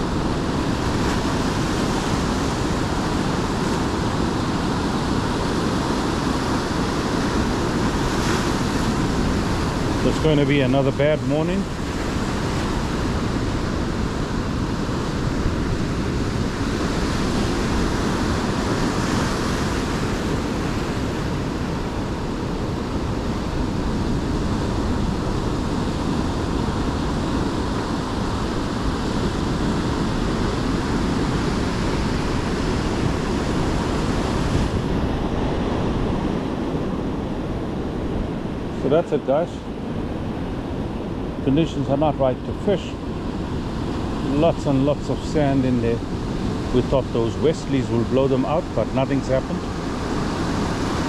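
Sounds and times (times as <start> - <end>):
surf breaking on beach: 0.0 - 51.0
wind rumbling on microphone: 0.0 - 51.0.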